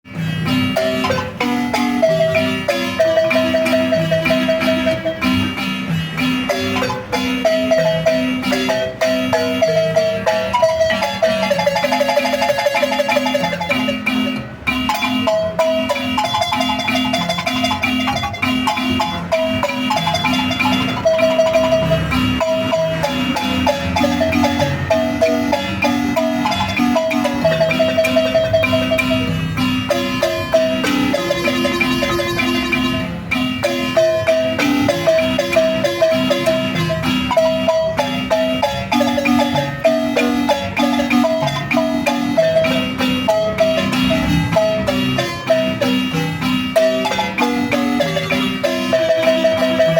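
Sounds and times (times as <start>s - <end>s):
marimba music: 0.0s - 49.9s.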